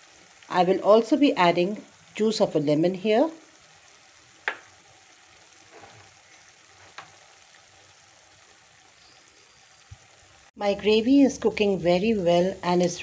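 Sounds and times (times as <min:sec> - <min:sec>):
masala sizzling in hot oil: 0:00.0 - 0:13.0.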